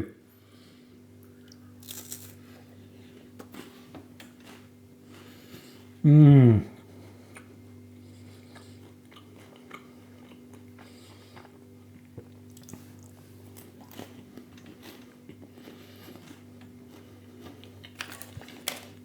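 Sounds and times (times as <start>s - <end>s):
steady low hum: 0.0s - 19.0s
person chewing crisp biscuit: 0.9s - 6.0s, 6.7s - 19.0s.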